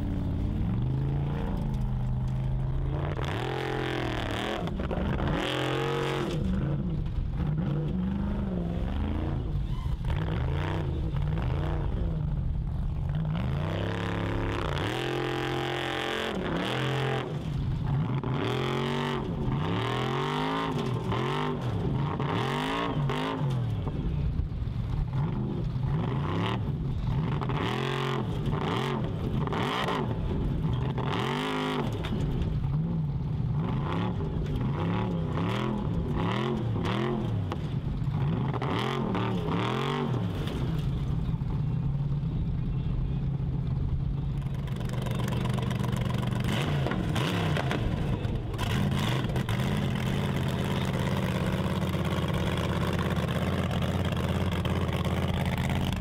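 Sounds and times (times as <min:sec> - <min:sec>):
buggy engine revving hard: 0:00.0 - 0:23.9, 0:25.0 - 0:41.0, 0:44.4 - 0:56.0.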